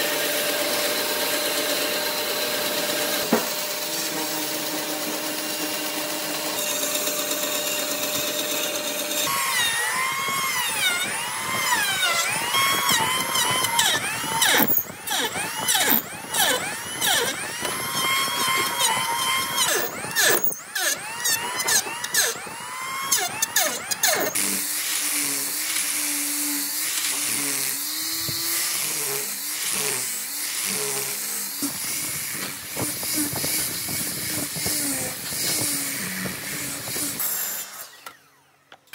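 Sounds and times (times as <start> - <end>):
angle grinder sanding: 0.0 - 38.0
band saw cutting wood: 0.0 - 38.9
electric planer shaving wood: 0.0 - 38.9.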